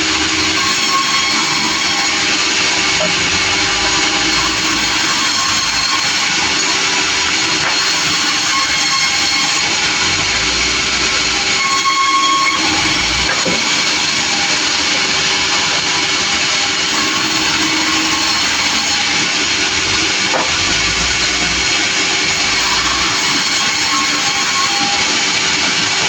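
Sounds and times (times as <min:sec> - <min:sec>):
high saw whine: 0:00.0 - 0:26.0
sawmill running: 0:00.0 - 0:26.0.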